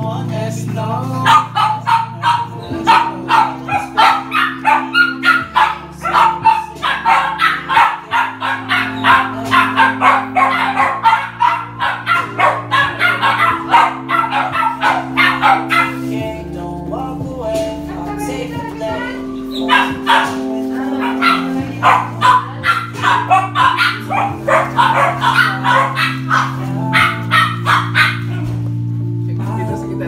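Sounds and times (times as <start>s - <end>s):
background music with held chords: 0.0s - 30.0s
dog barking rapidly: 1.2s - 16.2s, 19.5s - 28.6s.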